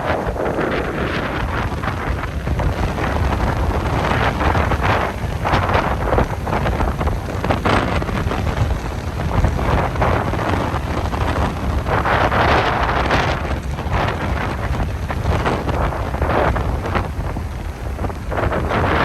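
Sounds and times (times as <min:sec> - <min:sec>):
rough surf crashing waves: 0:00.0 - 0:19.0
wind buffeting microphone: 0:00.0 - 0:19.0.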